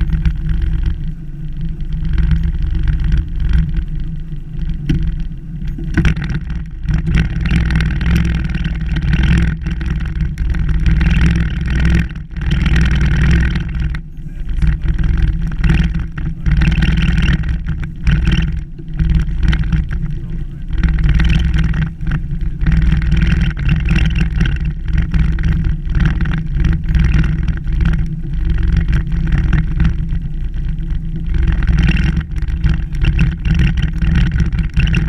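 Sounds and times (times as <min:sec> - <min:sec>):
boat motor droning: 0:00.0 - 0:35.0.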